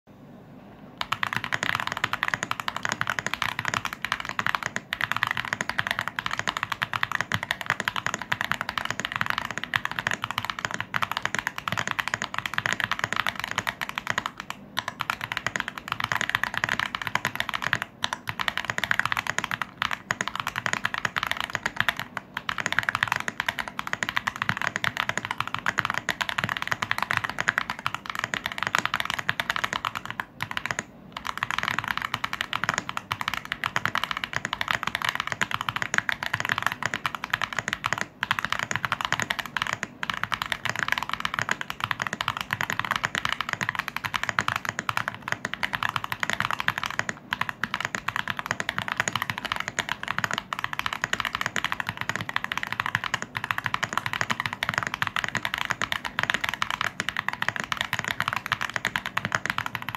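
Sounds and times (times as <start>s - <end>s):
fast mechanical keyboard typing: 1.0s - 59.9s.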